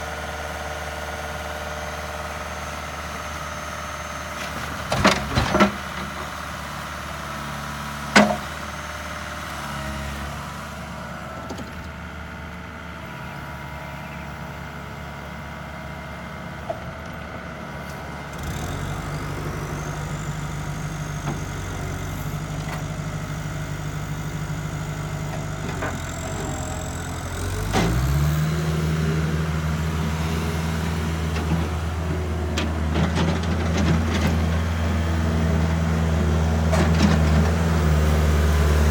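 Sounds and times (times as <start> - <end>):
diesel excavator engine revving: 0.0 - 38.9.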